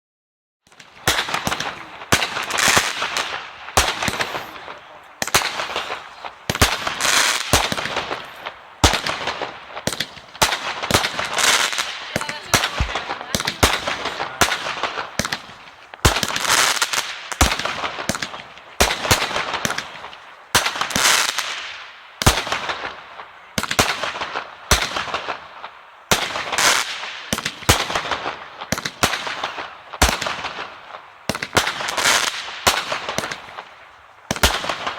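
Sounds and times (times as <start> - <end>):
fireworks bangs: 0.6 - 34.9.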